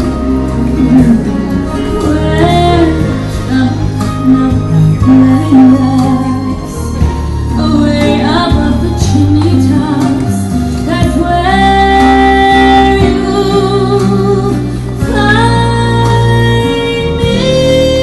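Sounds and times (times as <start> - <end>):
instrumental accompaniment: 0.0 - 18.0.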